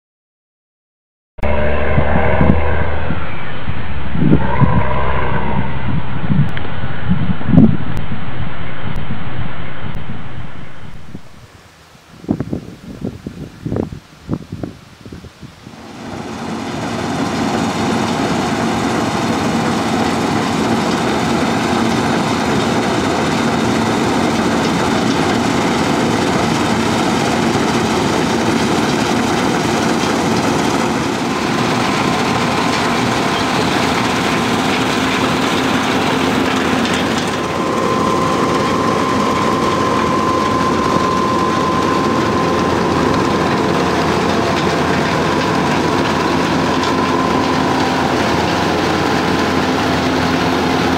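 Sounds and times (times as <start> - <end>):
combine harvester machinery din: 1.4 - 8.1, 15.8 - 50.9
steady high whine: 1.4 - 11.7, 15.8 - 50.9.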